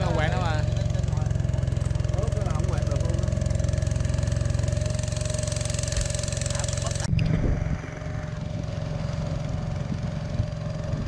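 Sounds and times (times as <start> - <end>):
boat engine running: 0.0 - 11.0
uneven low rumbling: 0.0 - 11.0.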